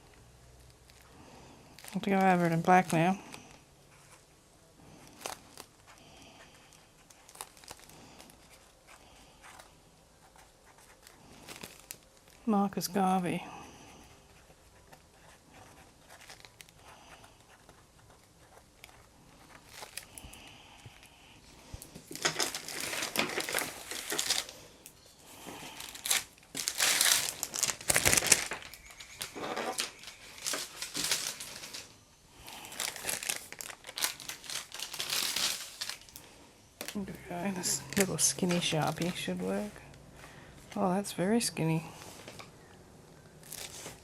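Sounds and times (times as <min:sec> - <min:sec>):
rustling and crinkling of art supplies: 0:00.0 - 0:42.6, 0:43.3 - 0:44.0.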